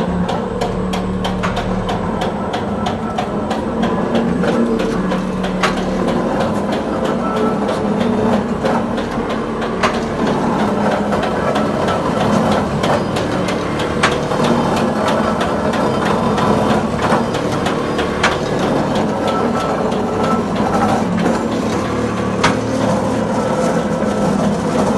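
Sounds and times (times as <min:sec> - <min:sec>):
machine humming: 0:00.0 - 0:24.9.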